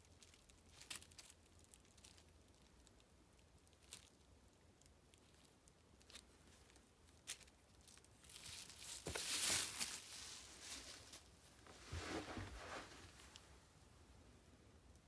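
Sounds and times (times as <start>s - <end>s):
bubble wrap rustling: 0.0s - 13.5s.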